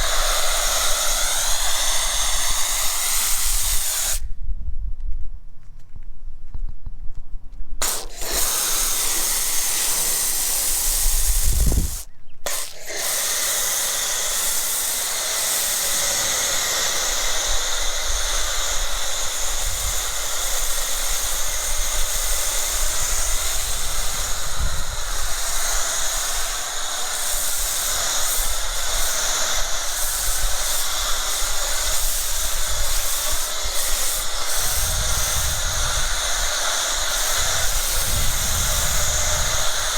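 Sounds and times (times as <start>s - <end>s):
foam cannon spraying hiss: 0.0s - 4.3s, 7.8s - 39.9s.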